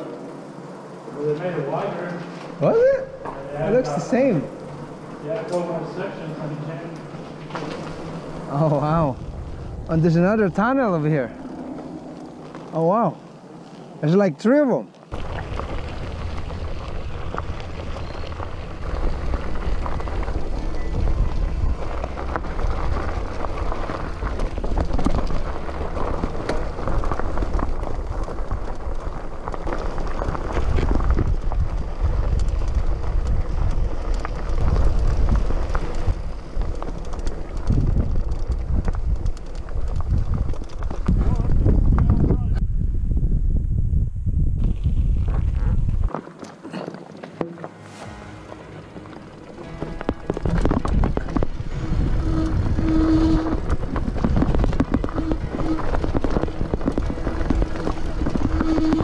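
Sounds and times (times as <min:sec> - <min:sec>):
bike tyres clicking and rattling: 0:00.0 - 0:43.6, 0:44.3 - 0:47.7, 0:48.8 - 0:59.0
wind buffeting microphone: 0:02.7 - 0:12.7, 0:15.1 - 0:46.1, 0:49.6 - 0:59.0.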